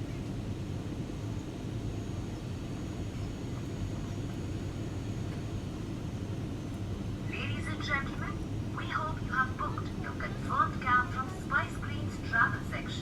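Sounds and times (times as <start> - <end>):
airliner cabin jet engine rumble: 0.0 - 13.0.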